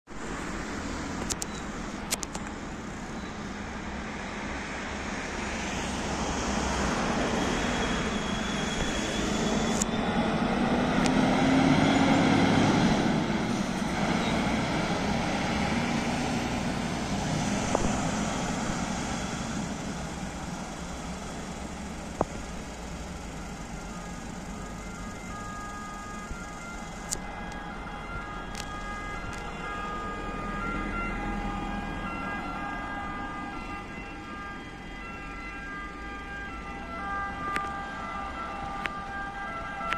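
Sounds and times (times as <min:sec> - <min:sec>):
fire engine diesel engine driving past: 0:00.2 - 0:39.9
distant siren: 0:03.4 - 0:39.9.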